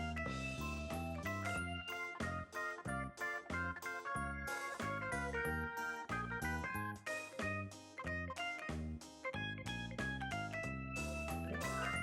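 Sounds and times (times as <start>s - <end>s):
low bass notes: 0.0s - 12.0s.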